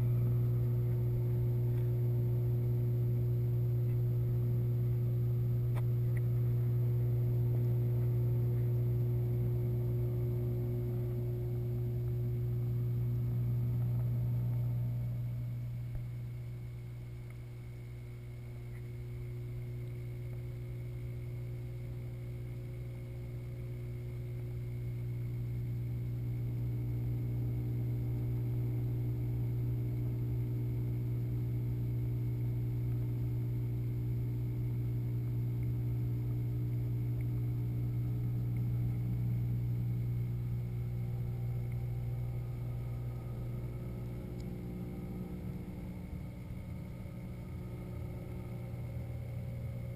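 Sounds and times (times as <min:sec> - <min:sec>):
aquarium pump humming underwater: 0:00.0 - 0:49.9
faint steady tones: 0:00.0 - 0:49.9.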